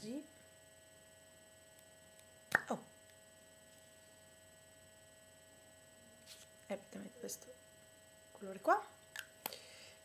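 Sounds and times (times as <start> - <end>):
electrical hum with whining tones: 0.0 - 10.0.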